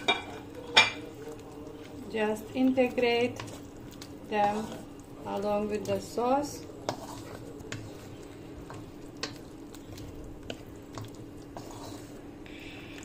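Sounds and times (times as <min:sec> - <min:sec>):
steady low hum: 0:00.0 - 0:13.0
food squelching in sauce: 0:00.5 - 0:06.0, 0:06.6 - 0:13.0.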